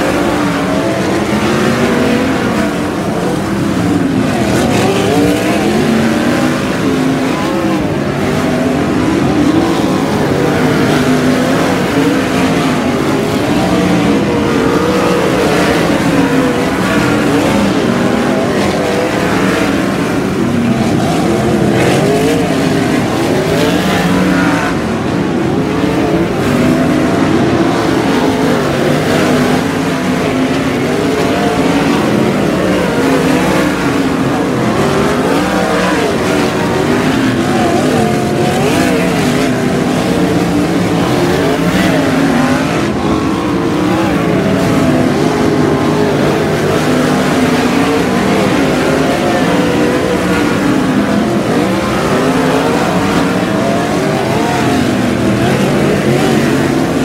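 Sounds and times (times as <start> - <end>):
racing car engines: 0.0 - 57.0.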